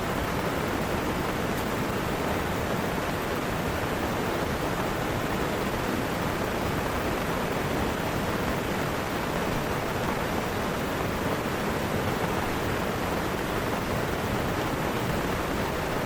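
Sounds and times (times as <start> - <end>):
heavy rain: 0.0 - 16.0
rushing river water: 0.0 - 16.0.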